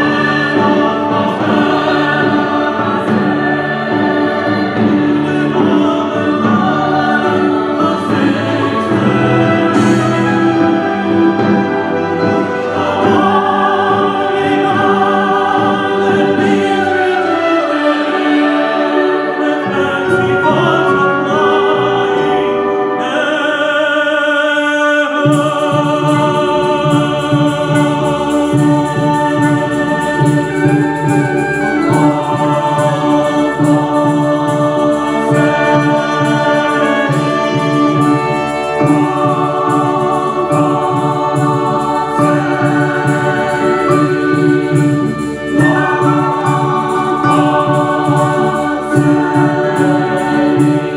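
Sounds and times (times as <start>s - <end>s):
choir singing: 0.0s - 50.9s
symphony orchestra: 0.0s - 50.9s.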